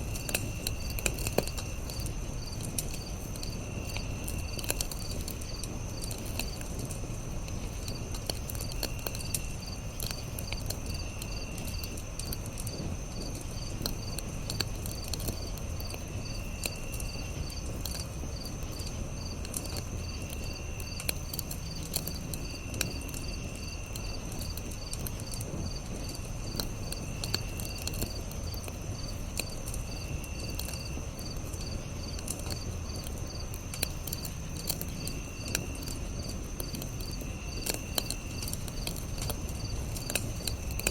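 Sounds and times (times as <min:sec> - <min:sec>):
campfire crackling and popping: 0:00.0 - 0:40.9
crickets chirping: 0:00.0 - 0:40.9
insect calls: 0:00.0 - 0:40.9.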